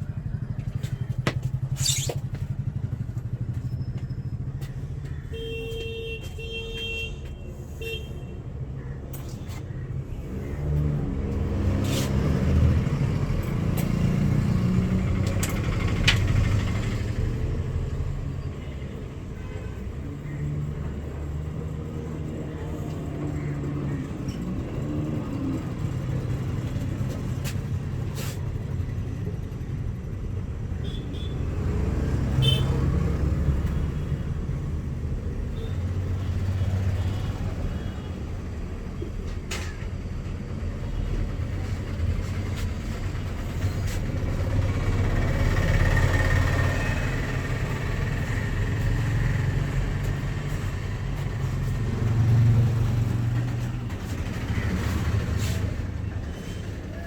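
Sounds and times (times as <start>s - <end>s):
cars and buses passing: 0.0s - 57.0s.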